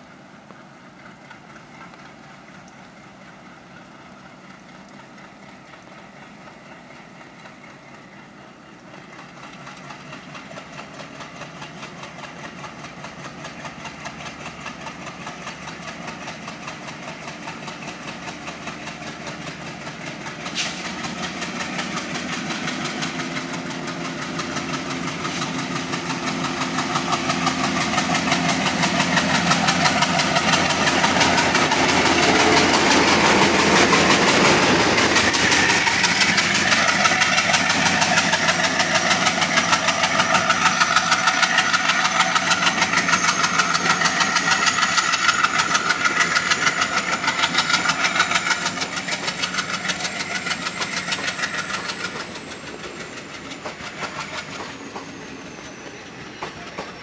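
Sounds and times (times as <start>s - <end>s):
diesel locomotive engine working: 0.0s - 57.0s
train wheels clattering over rails: 0.5s - 57.0s.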